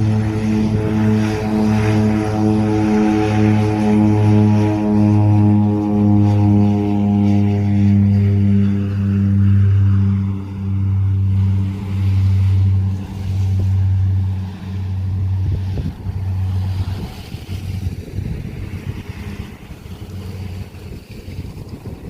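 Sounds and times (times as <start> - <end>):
rushing wind and water: 0.0 - 22.0
seaplane engine and propeller: 0.0 - 22.0.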